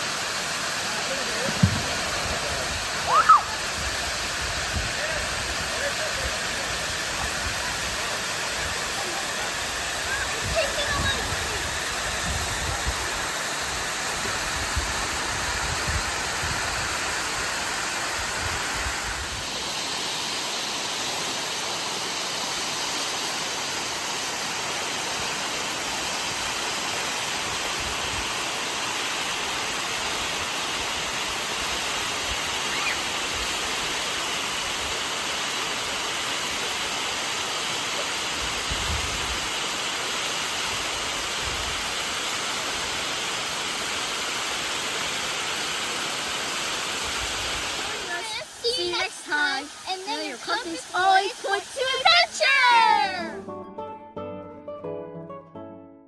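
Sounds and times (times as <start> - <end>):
waterfall rushing: 0.0 - 53.4.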